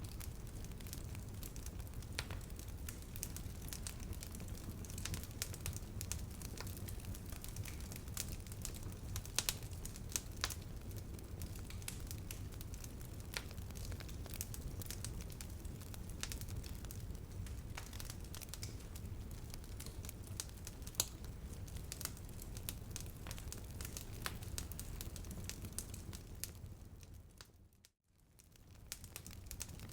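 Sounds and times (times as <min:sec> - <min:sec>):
burning wood crackling and popping: 0:00.0 - 0:27.5, 0:28.2 - 0:29.9
low rumble of flames: 0:00.0 - 0:29.9.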